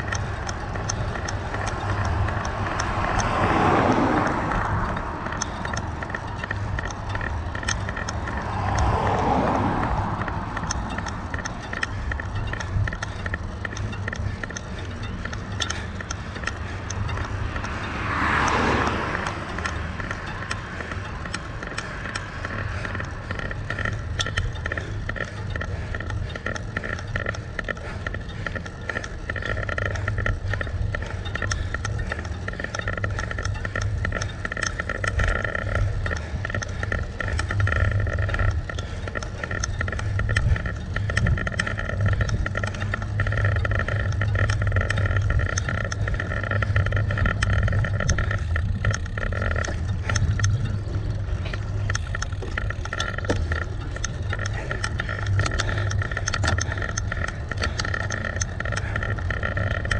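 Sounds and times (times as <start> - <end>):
cars passing: 0.0 - 59.9
light ticks: 0.0 - 59.9
wind and road rumble: 0.0 - 59.9.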